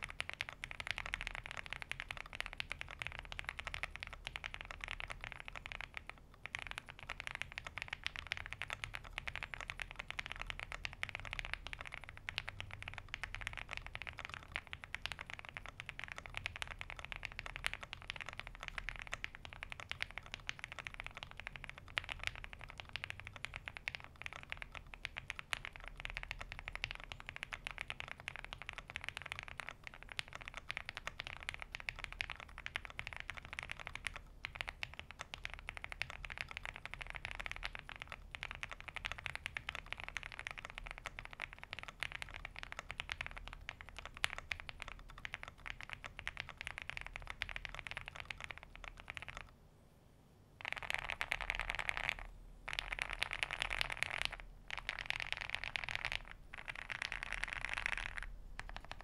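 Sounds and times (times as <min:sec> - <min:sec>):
fast mechanical keyboard typing: 0:00.0 - 0:49.5, 0:50.6 - 0:59.0.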